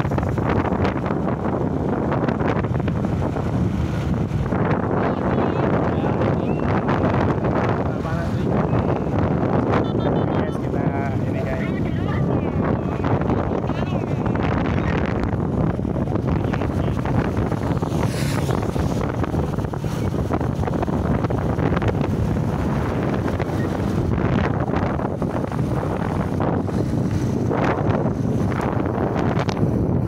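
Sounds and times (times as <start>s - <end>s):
motorcycle engine and road noise: 0.0s - 30.0s
wind buffeting microphone: 0.0s - 30.0s.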